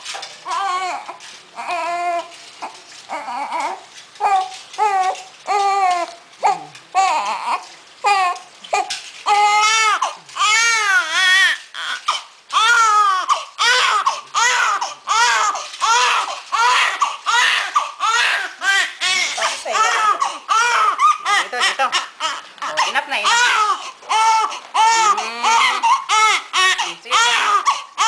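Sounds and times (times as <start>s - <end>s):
newborn baby crying: 0.5s - 28.0s.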